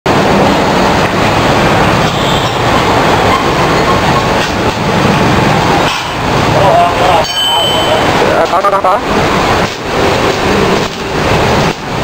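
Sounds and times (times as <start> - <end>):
heavy metalworking machinery running: 0.1 - 7.2, 7.8 - 12.0.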